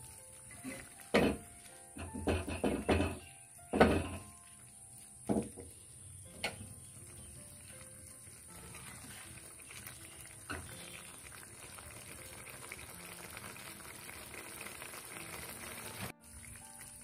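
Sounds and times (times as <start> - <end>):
curry gravy bubbling and popping: 0.0 - 17.0.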